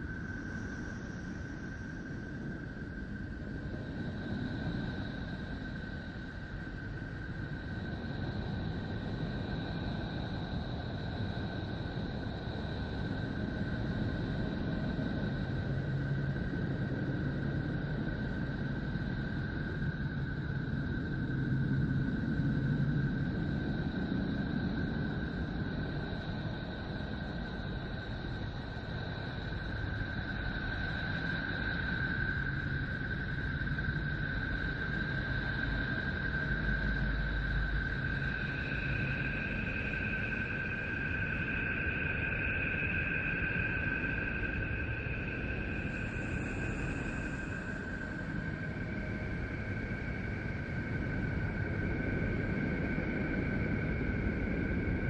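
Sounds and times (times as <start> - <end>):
rumbling hiss drone: 0.0 - 55.0.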